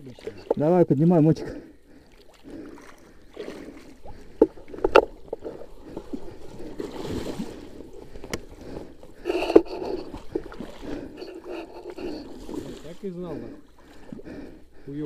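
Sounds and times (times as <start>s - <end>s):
river water sloshing and splashing: 0.0s - 14.8s.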